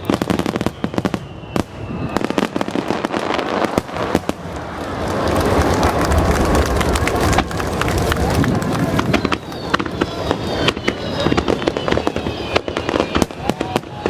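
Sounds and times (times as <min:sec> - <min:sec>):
fireworks cracks and bangs: 0:00.0 - 0:14.0
fireworks deep rumble: 0:00.0 - 0:14.0.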